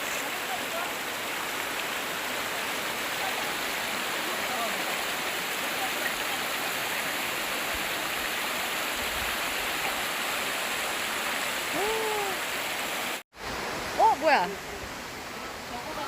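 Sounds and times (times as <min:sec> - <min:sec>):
stream flowing over rocks: 0:00.0 - 0:16.0.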